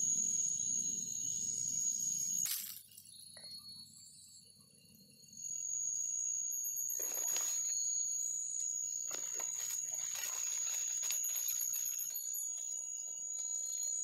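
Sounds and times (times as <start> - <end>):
high-pitched insect buzz: 0.0 - 14.0.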